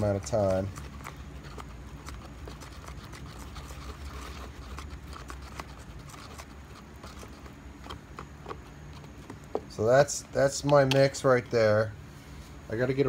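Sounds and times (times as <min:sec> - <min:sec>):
stick stirring resin in plastic cup: 0:00.0 - 0:11.4
low steady hum: 0:00.0 - 0:13.0.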